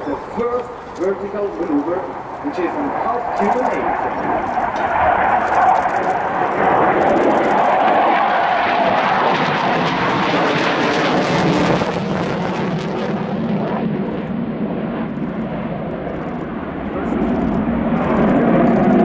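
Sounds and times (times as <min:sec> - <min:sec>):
jet engine rumble: 0:00.0 - 0:19.0.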